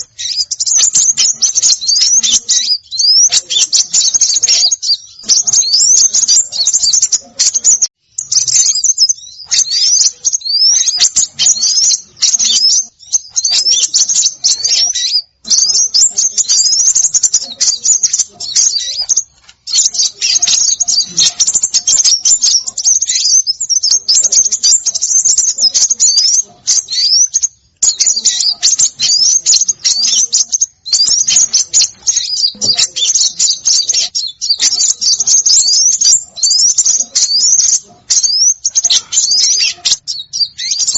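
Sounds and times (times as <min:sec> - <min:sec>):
songbirds chattering: 0:00.0 - 0:40.9.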